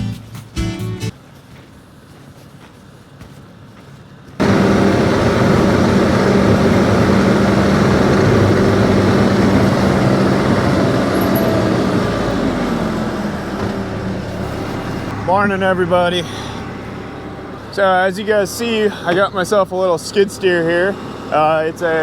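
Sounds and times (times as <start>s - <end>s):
diesel engine idling: 4.4s - 22.0s.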